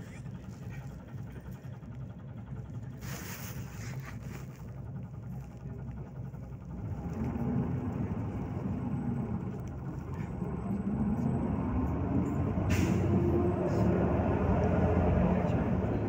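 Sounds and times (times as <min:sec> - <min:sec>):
bus engine accelerating: 0:00.0 - 0:16.0.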